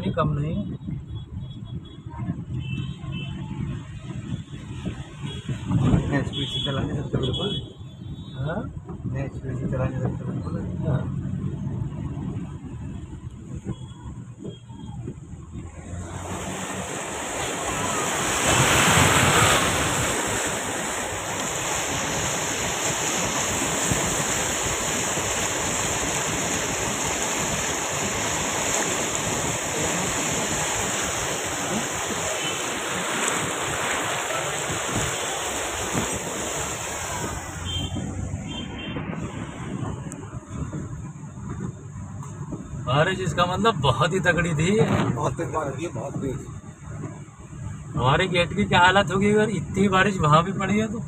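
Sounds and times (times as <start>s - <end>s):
floodwater rushing around car: 2.0s - 8.1s, 8.7s - 14.4s, 15.0s - 51.0s.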